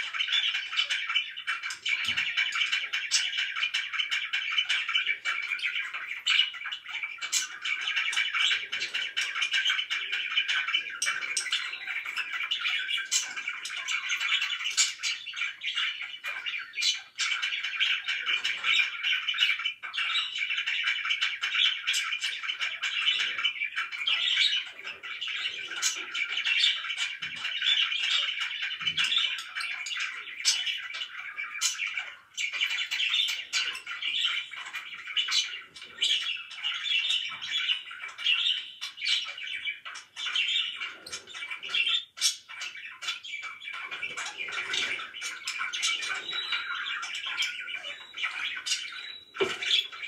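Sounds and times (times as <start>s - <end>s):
budgerigars chattering: 0.0s - 50.0s.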